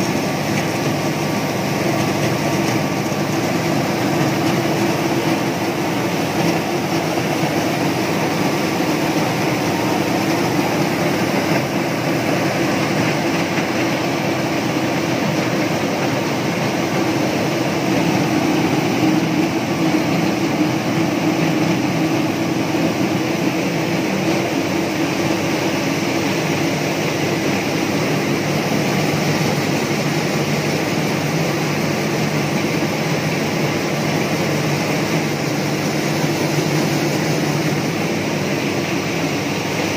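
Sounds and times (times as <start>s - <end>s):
rice mill droning: 0.0s - 39.9s.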